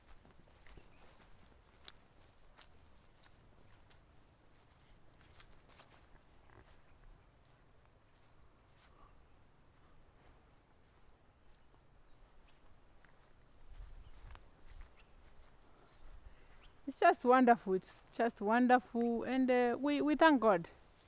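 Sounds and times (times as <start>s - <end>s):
faint rural outdoor ambience: 0.0s - 21.0s.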